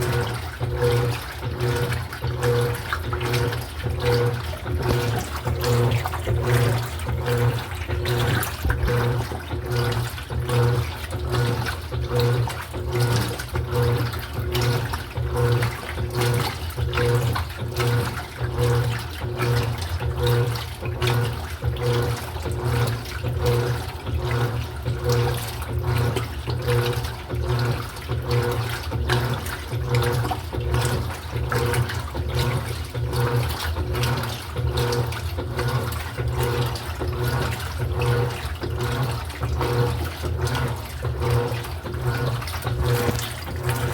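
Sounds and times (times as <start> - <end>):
washing machine churning water: 0.0 - 43.9
washing machine motor hum: 0.0 - 43.9.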